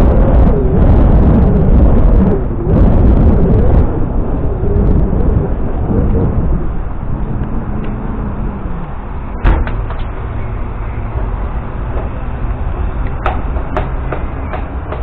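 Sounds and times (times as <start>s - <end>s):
bicycle rolling rumble: 0.0s - 15.0s
wind: 0.0s - 15.0s.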